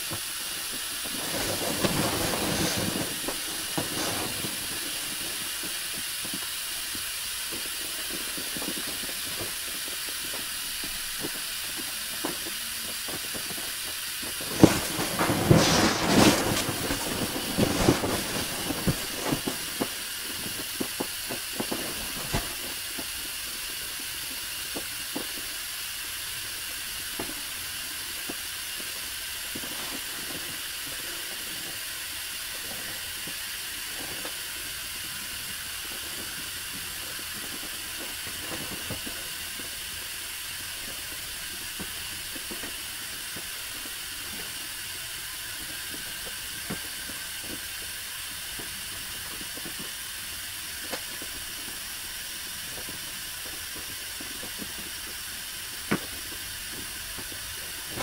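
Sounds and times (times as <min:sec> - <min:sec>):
air hissing out of valve: 0:00.0 - 0:58.0.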